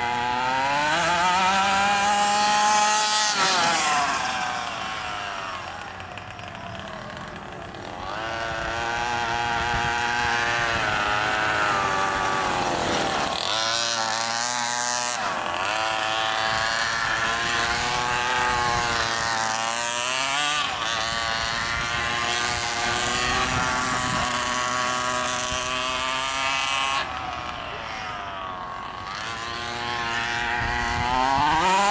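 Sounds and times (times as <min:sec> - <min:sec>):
two-stroke engine revving: 0:00.0 - 0:31.9.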